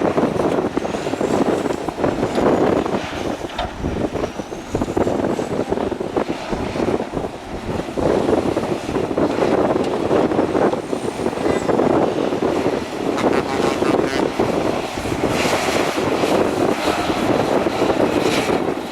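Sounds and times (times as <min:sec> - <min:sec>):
excavator engine and hydraulics: 0:00.0 - 0:18.9.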